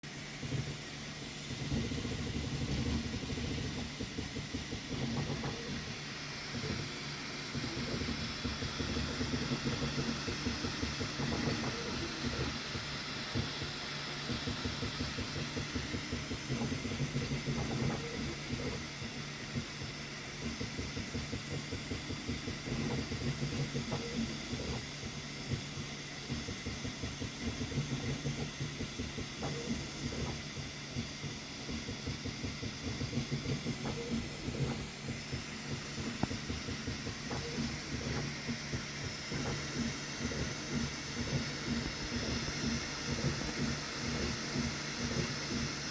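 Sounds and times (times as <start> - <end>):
printer motors buzzing: 0.1 - 45.9.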